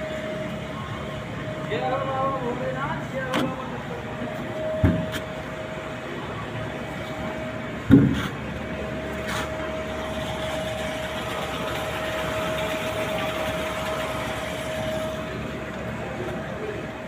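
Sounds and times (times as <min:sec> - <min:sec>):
machinery whining and humming: 0:00.0 - 0:17.0.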